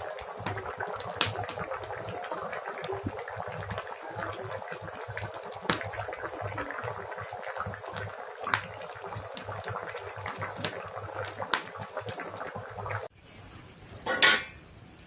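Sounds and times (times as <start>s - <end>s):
curry bubbling: 0.0s - 13.1s
sharp pops: 0.0s - 13.1s.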